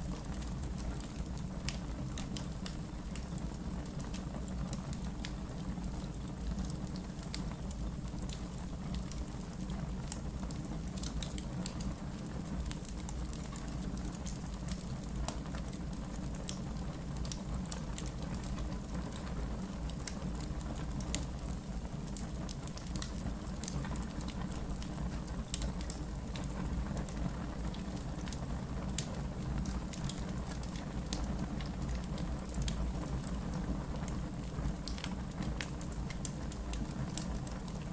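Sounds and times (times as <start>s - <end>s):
low rumble of flame: 0.0s - 37.9s
wood crackling and popping: 0.0s - 37.9s.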